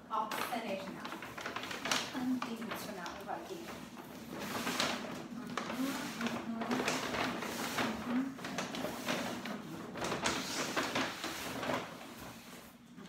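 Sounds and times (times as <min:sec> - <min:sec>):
paper bag and tissue rustling: 0:00.0 - 0:13.0.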